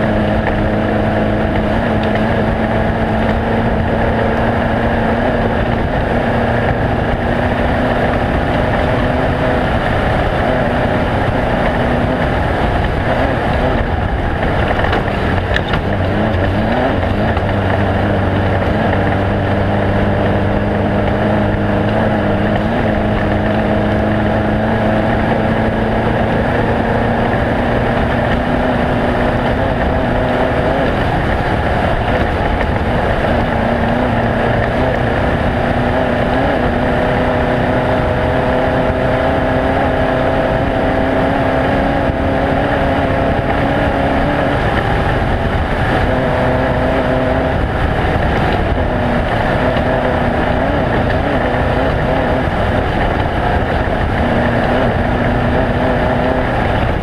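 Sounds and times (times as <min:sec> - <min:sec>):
engines droning: 0:00.0 - 0:57.0.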